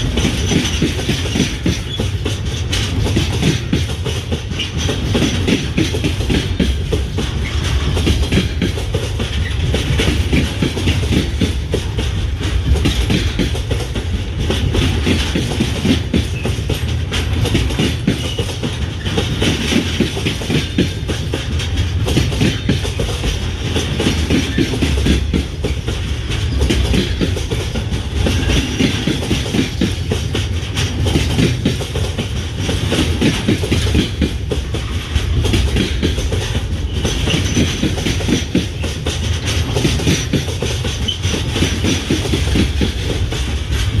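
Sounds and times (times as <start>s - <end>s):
train wheels clattering on rails: 0.0s - 44.0s.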